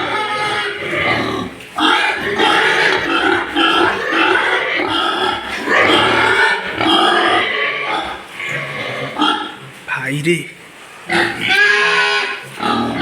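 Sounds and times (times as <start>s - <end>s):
pigs squealing and grunting: 0.0s - 9.8s, 10.9s - 13.0s.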